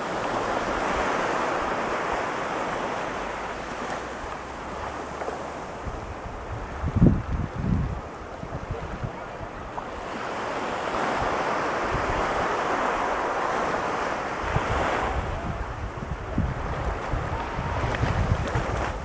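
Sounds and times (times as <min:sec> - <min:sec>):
wave breaking on beach: 0:00.0 - 0:19.0
wind buffeting microphone: 0:00.0 - 0:19.0.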